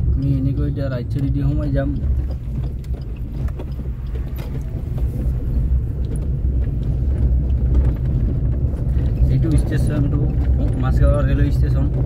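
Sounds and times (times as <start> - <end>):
car engine and road noise: 0.0 - 12.0
light clicks and rattles: 0.0 - 12.0.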